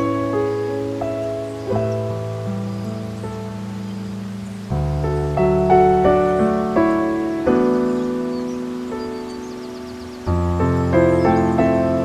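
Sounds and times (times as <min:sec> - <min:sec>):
piano chord: 0:00.0 - 0:12.0.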